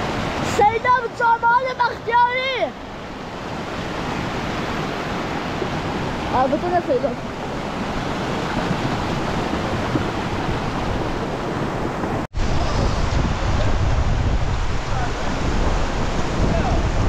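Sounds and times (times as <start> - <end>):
floodwater rushing over stones: 0.0 - 17.0
wind buffeting microphone: 0.0 - 17.0.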